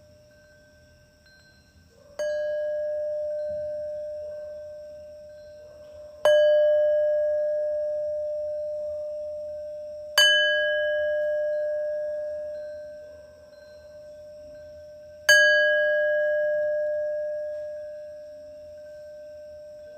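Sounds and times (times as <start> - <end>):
resonant metal bell struck: 0.0 - 19.9.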